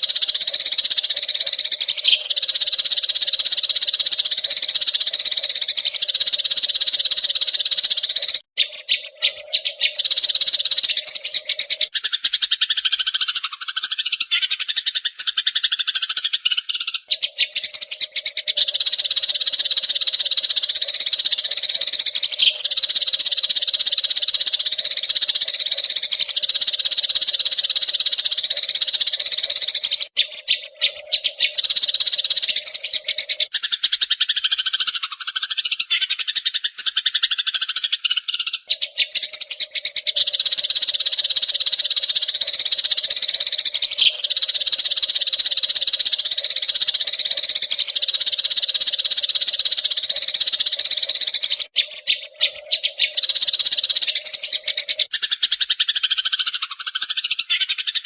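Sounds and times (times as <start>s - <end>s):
bird warbling calls: 0.0s - 58.0s
sparrows chirping: 0.0s - 58.0s.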